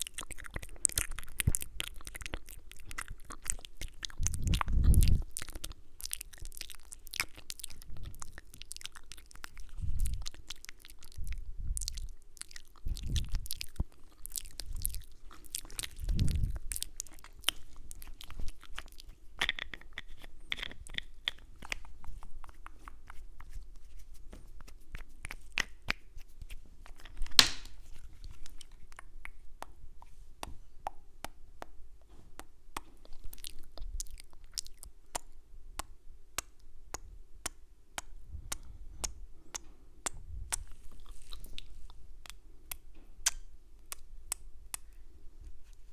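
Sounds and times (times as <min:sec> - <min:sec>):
wet mouth clicks and kisses: 0:00.0 - 0:08.5, 0:12.8 - 0:31.8, 0:32.4 - 0:45.0.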